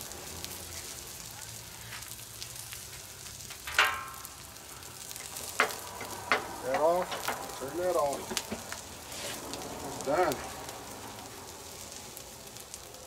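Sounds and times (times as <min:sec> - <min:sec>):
egg sizzling on griddle: 0:00.0 - 0:13.0.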